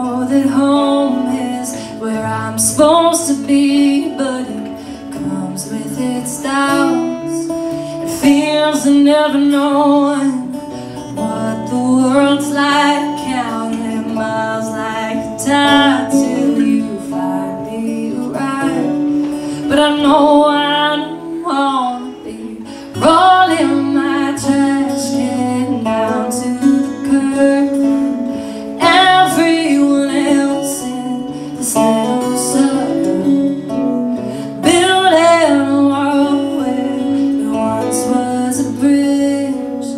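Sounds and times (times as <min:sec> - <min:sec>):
acoustic guitars playing: 0:00.0 - 0:39.9
woman singing slow song: 0:00.0 - 0:39.9.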